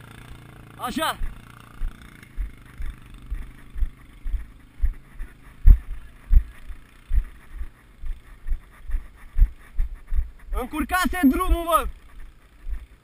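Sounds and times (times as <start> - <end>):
footsteps on dirt track: 0.9 - 13.0.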